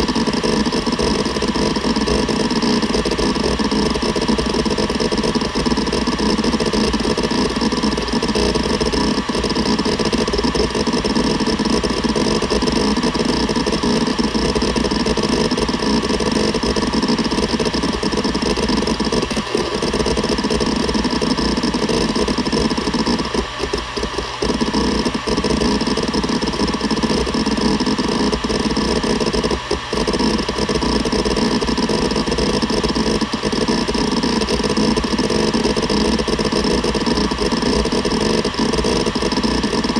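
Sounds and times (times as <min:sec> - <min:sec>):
hard drive head seek chatter: 0:00.0 - 0:39.9
hard drive spinning hum: 0:00.0 - 0:39.9.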